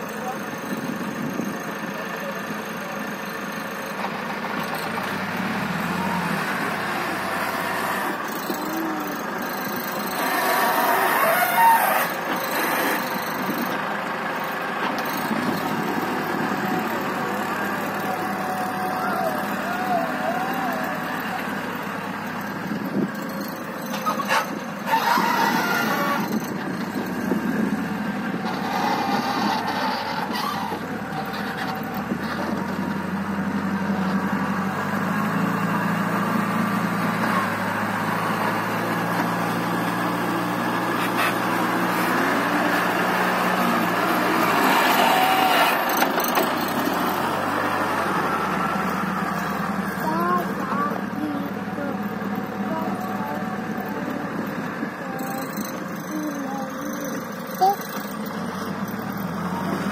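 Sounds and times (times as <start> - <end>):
loader diesel engine under load: 0.0 - 59.9.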